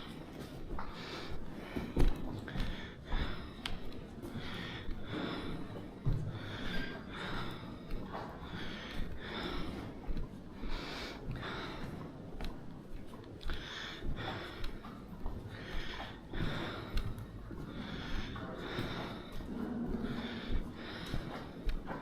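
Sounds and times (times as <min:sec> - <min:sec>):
person breathing hard: 0:00.0 - 0:22.0.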